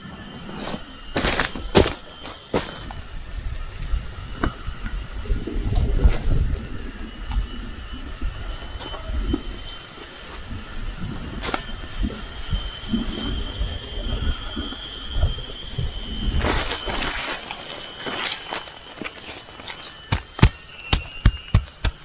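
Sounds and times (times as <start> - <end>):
insects droning: 0.0 - 22.0
rustling in dry leaves: 0.0 - 22.0.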